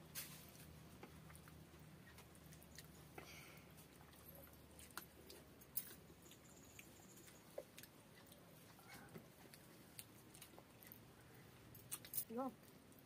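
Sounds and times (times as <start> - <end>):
soft chewing: 0.4 - 13.0.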